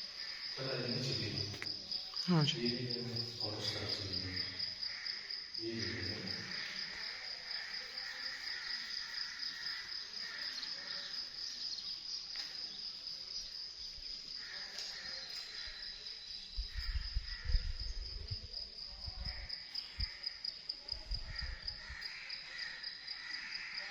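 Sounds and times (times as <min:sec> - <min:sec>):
cricket trilling: 0:00.0 - 0:23.9.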